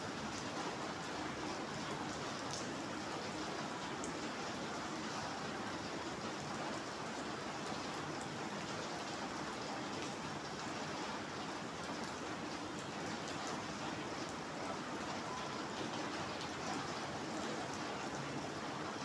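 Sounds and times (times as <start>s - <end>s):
rain on wet paving: 0.0s - 19.0s.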